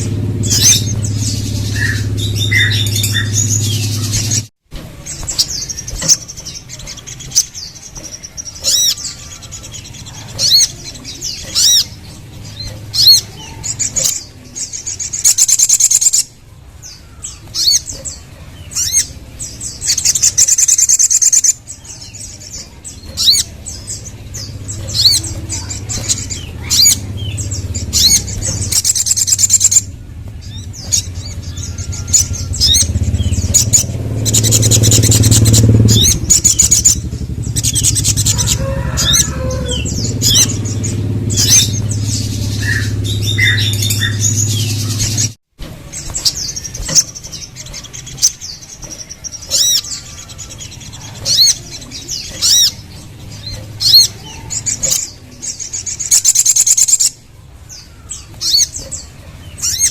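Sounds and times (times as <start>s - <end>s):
bird chirping and trilling: 0.0s - 59.9s.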